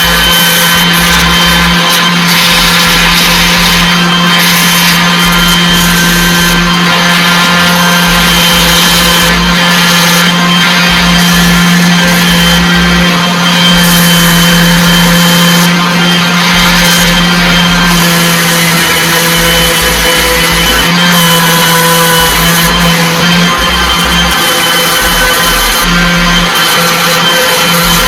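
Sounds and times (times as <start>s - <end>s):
electric power tool humming: 0.0s - 28.0s.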